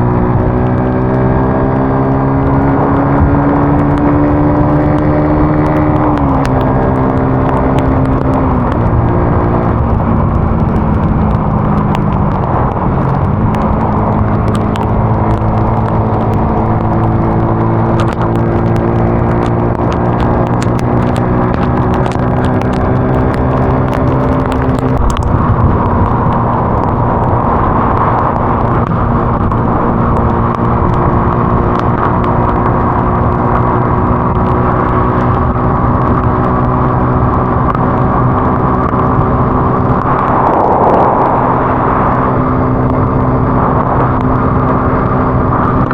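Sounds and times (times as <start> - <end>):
road and wind noise: 0.0 - 45.9
vehicle engine running: 0.0 - 45.9.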